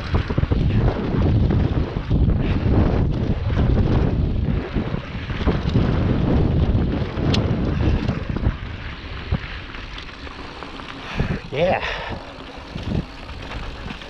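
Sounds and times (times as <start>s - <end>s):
bike rattling over bumps: 0.0s - 14.0s
bike tyres crunching on gravel: 0.0s - 14.0s
wind rushing over microphone: 0.0s - 14.0s.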